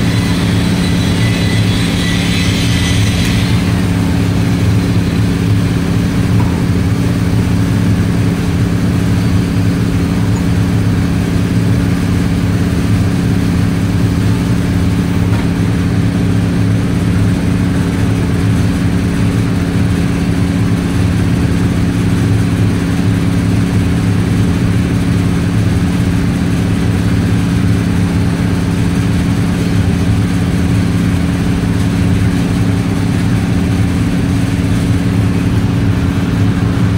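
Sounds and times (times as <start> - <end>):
loud mechanical hum: 0.0 - 36.9.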